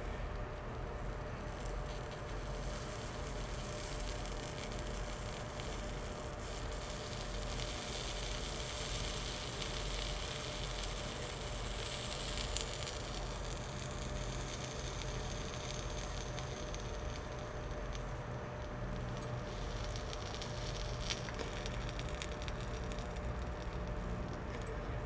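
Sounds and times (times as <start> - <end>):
low shop hum: 0.0 - 25.0
solder sizzling: 0.8 - 25.0.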